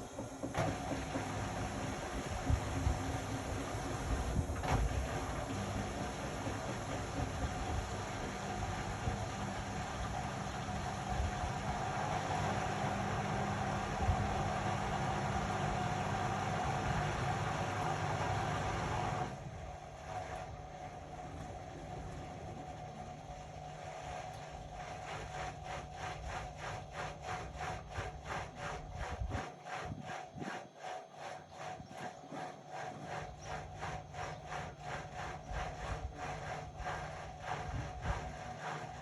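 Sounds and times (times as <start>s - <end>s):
washing machine motor whine: 0.0s - 39.0s.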